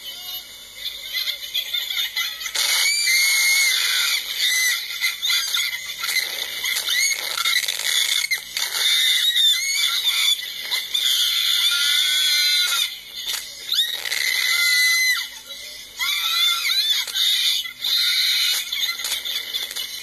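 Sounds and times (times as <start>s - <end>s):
women screaming and squealing: 0.0s - 20.0s.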